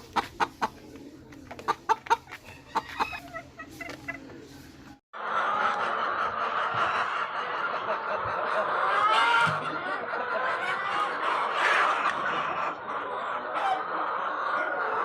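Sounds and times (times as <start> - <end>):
flock of chickens chattering: 0.0 - 15.0.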